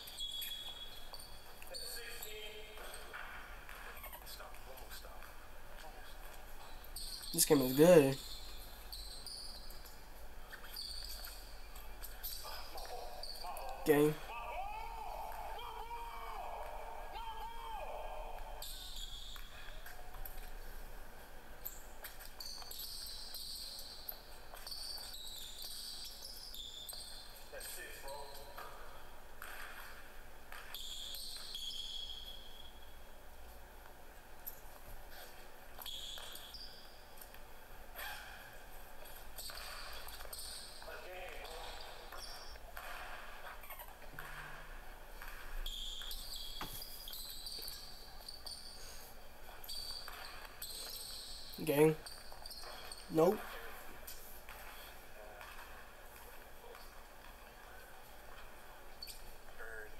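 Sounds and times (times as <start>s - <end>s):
sneaker squeaks: 0.0s - 20.8s, 21.6s - 33.0s, 34.4s - 59.9s.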